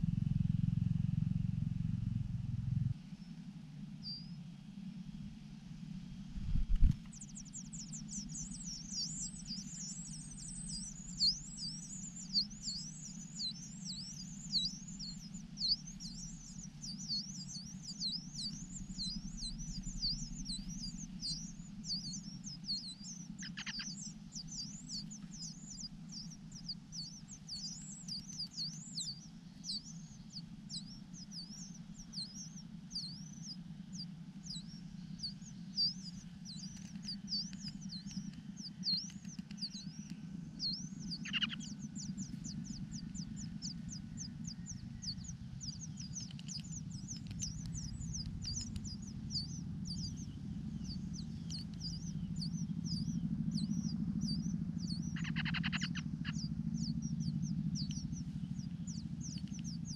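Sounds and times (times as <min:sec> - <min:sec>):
nestlings begging chirps: 0:04.0 - 0:04.4, 0:06.8 - 0:59.9.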